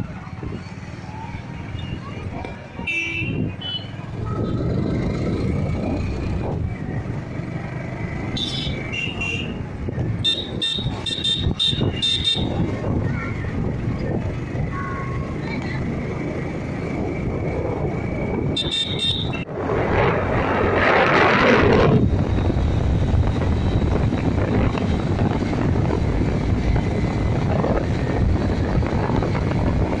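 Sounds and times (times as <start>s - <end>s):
motorcycle engine rumble: 0.0s - 30.0s
wind rushing over microphone: 0.0s - 30.0s.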